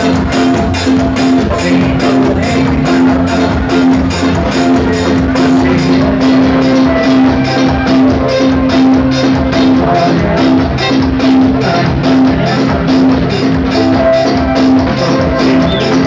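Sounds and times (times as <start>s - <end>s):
drum-kit beat: 0.0s - 16.0s
live band music: 0.0s - 16.0s.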